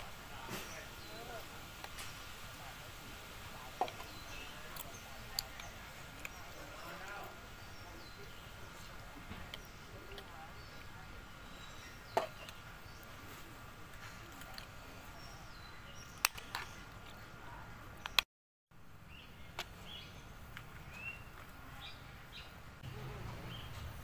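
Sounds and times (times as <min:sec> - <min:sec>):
birds chirping: 0:00.0 - 0:18.2, 0:18.8 - 0:24.0.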